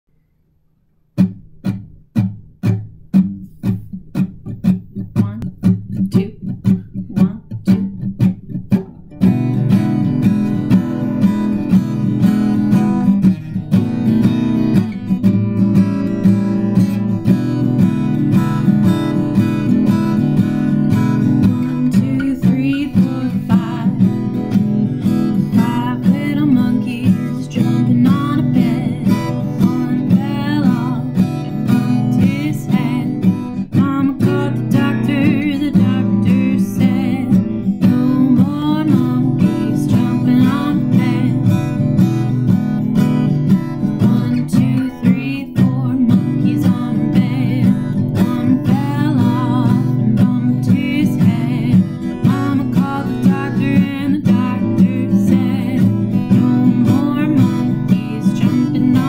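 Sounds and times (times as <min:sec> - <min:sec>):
acoustic guitar strumming: 0:01.2 - 0:59.0.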